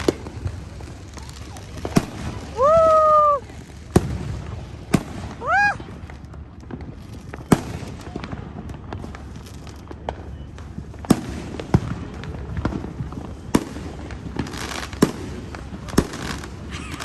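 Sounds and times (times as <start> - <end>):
firework bangs: 0.0 - 17.0
small firework pops: 0.0 - 17.0.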